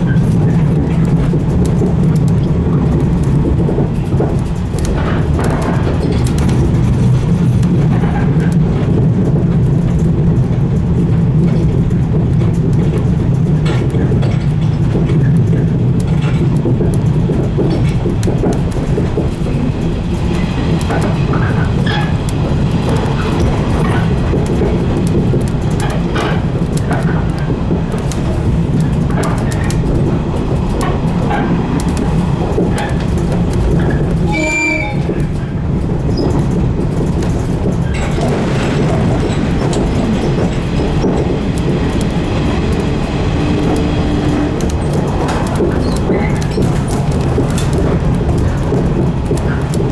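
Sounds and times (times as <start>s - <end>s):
electric train rumbling: 0.0s - 49.9s
wheels clicking over rail joints: 0.0s - 49.9s.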